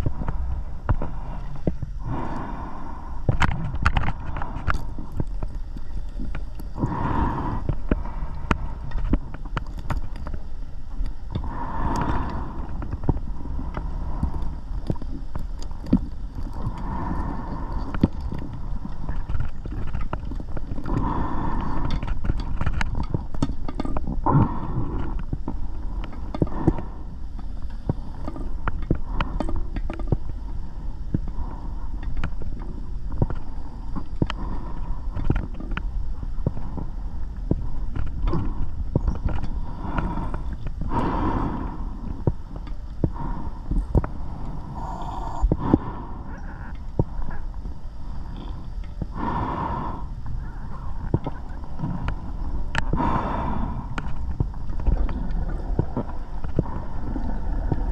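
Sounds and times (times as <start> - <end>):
diver breathing underwater: 0.0 - 9.6, 11.2 - 22.7, 24.1 - 57.9
crackle of water noise: 0.0 - 57.9.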